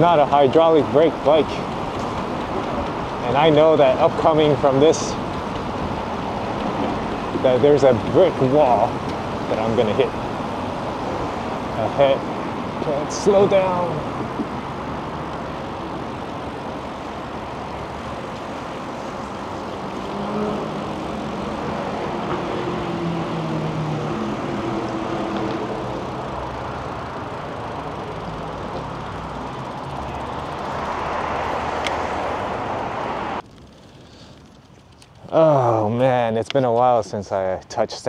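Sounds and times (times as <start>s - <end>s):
low engine drone: 0.0s - 34.3s
wind rushing over microphone: 0.2s - 27.6s, 28.8s - 33.4s.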